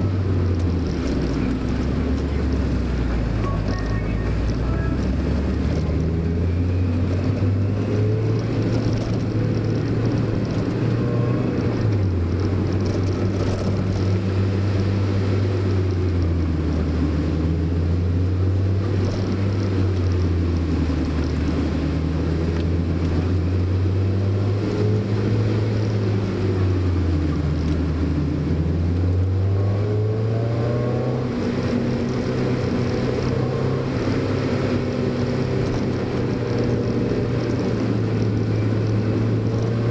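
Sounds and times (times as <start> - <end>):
car engine revving: 0.0 - 39.9
road noise: 0.0 - 39.9.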